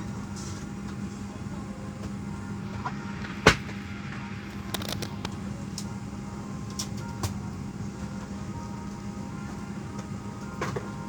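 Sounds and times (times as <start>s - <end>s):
airliner cabin hum: 0.0s - 11.0s.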